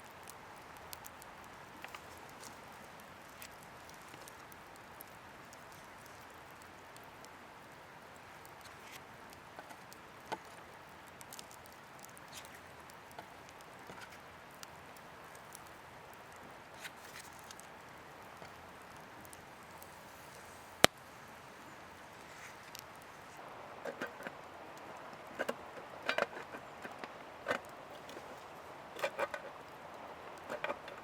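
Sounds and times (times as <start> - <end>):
quiet rushing background: 0.0 - 31.0
small clicks and crackles: 0.0 - 31.0.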